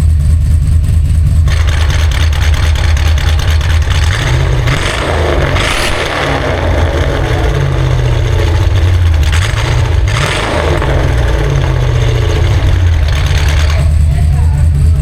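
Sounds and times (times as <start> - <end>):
car engine with deep exhaust note: 0.0 - 15.0.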